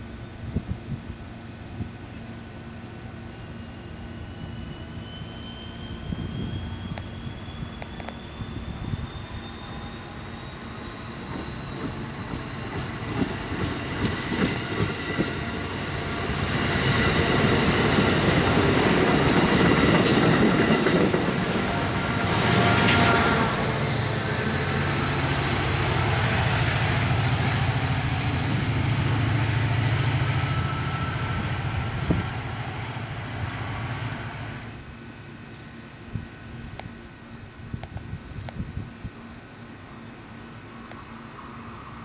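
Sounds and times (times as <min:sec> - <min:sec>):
train passing on rails: 0:00.0 - 0:42.0.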